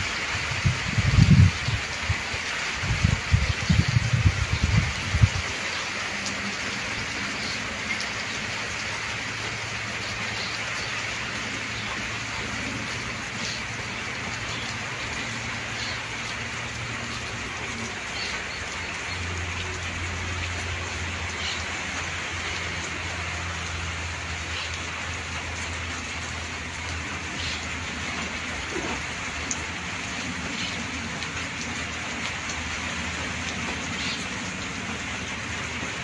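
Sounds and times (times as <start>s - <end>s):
gentle steady rain: 0.0s - 36.0s.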